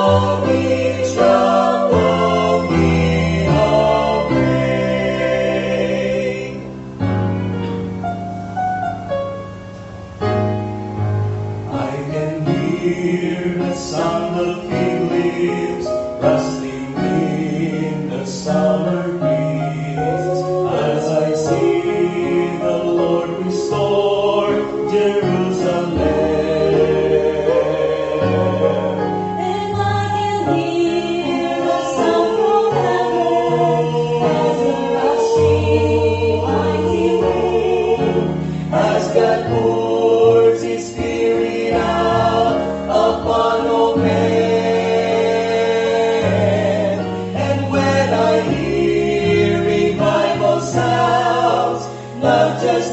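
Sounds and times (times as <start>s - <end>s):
vocal quartet singing gospel: 0.0s - 7.6s, 11.6s - 52.9s.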